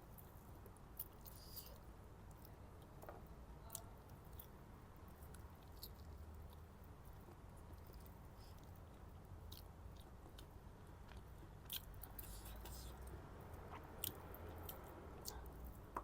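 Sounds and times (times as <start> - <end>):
faint chewing: 0.1 - 16.0.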